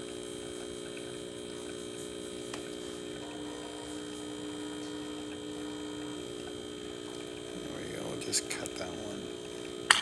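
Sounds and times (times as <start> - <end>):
espresso machine pump humming: 0.0 - 10.0.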